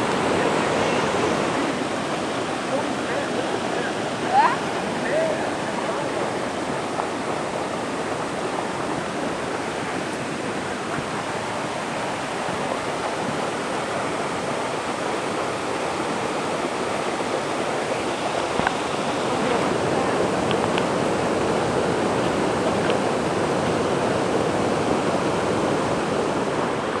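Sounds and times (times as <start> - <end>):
water rushing over rock: 0.0 - 27.0.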